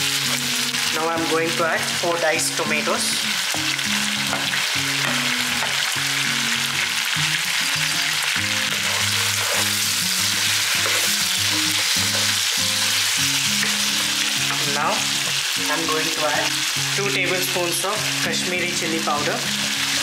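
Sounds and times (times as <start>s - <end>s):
background music with low notes: 0.0s - 20.0s
food sizzling in a pan: 0.0s - 20.0s.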